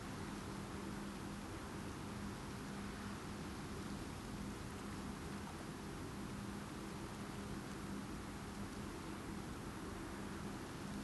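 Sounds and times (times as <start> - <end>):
faint low hum: 0.0 - 11.0
hiss of wind and water: 0.0 - 11.0.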